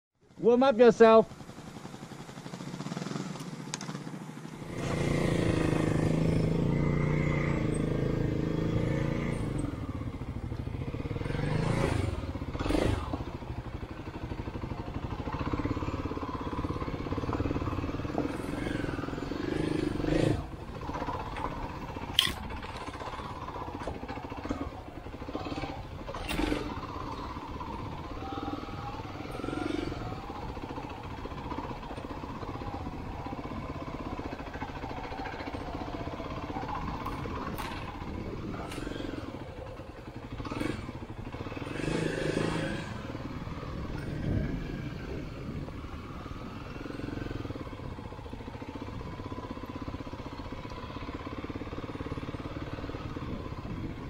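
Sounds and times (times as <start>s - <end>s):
dirt bike engine running: 0.3s - 54.0s.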